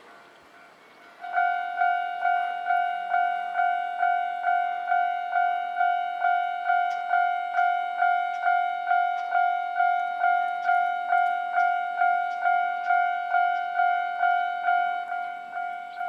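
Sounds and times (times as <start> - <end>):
level crossing warning bell ringing: 0.0 - 16.0.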